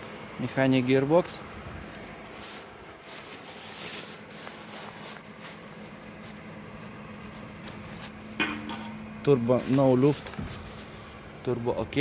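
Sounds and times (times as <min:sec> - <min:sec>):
low steady hum: 0:00.0 - 0:12.0
soft scuffs and rustles: 0:00.0 - 0:12.0.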